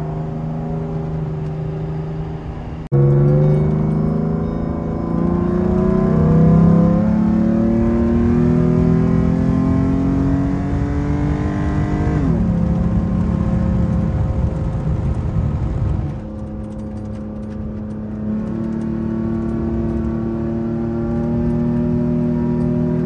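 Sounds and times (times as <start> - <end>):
truck engine accelerating: 0.0 - 23.0.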